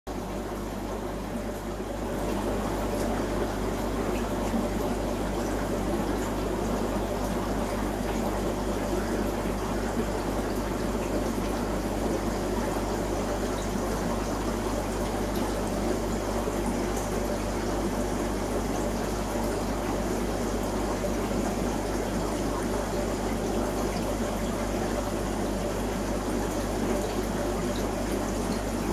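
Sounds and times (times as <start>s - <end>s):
low constant hum: 0.1s - 28.9s
rushing aquarium water: 0.1s - 28.9s.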